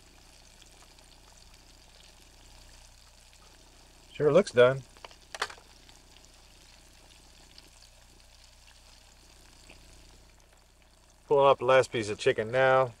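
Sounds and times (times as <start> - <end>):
chicken sizzling in grease: 0.0 - 13.0.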